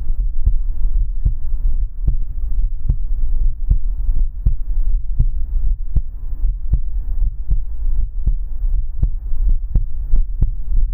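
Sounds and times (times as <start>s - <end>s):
heartbeat: 0.0s - 10.9s
low rumble: 0.0s - 10.9s.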